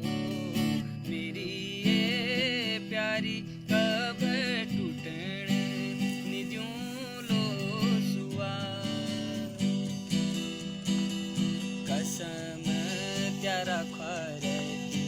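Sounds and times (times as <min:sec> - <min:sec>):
plucked strings: 0:00.0 - 0:15.0.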